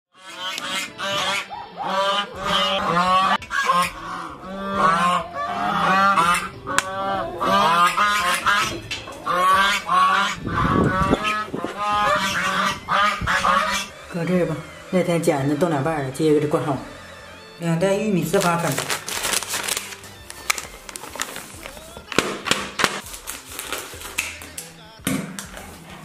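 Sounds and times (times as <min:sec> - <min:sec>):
geese honking: 0:00.2 - 0:22.6.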